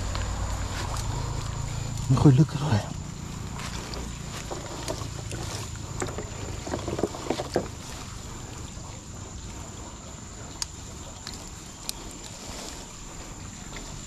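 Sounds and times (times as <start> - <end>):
rustling through wet grass: 0.0 - 14.0.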